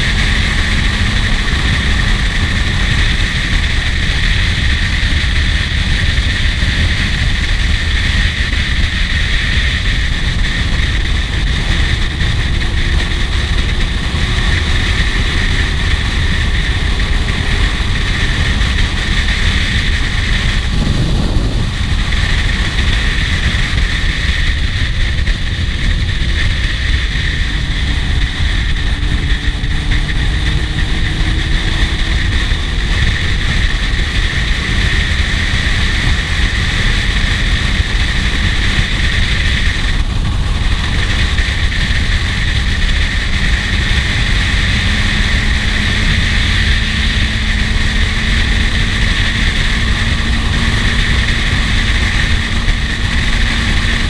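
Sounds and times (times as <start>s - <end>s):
motorcycle engine drone: 0.0s - 54.0s
wind rush on microphone: 0.0s - 54.0s.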